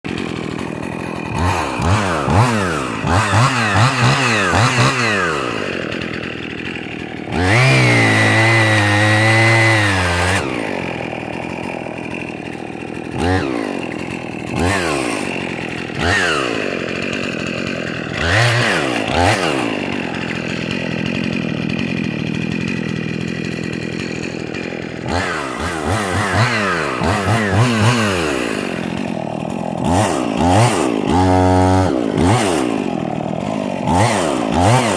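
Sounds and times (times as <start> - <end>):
chainsaw idling: 0.0 - 34.9
chainsaw revving: 0.0 - 34.9.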